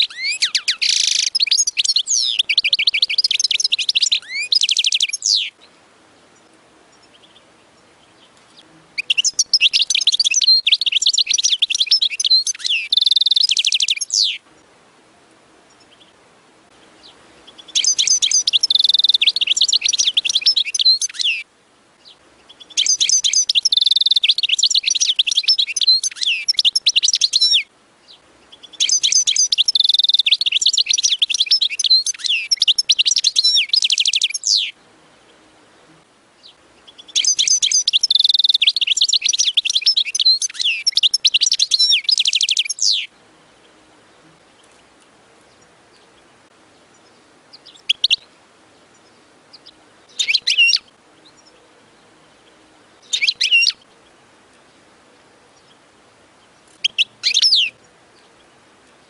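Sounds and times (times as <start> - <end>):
short bird calls: 0.0 - 14.7, 15.7 - 43.2, 45.5 - 54.9, 56.5 - 59.0.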